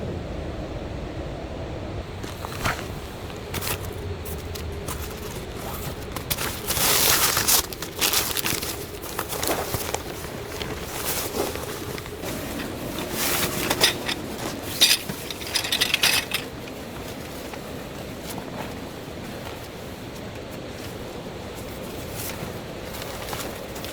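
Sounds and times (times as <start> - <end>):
objects clattering and crunching: 2.2 - 23.9.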